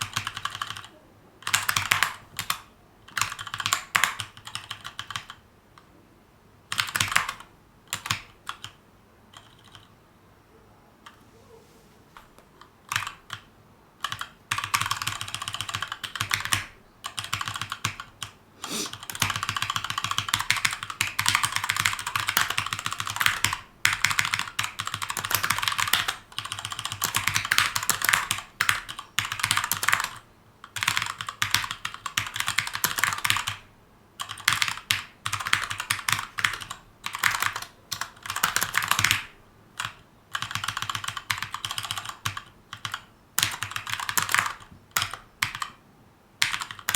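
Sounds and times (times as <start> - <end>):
mechanical keyboard typing: 0.0 - 5.4, 6.7 - 9.9, 12.6 - 45.8, 46.4 - 46.9.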